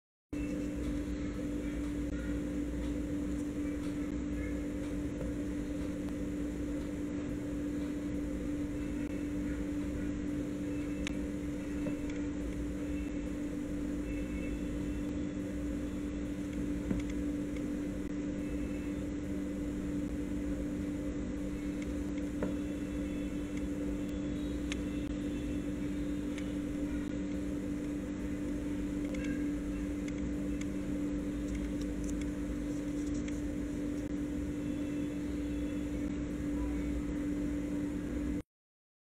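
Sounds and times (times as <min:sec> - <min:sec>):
steady hum and hiss: 0:00.4 - 0:38.4.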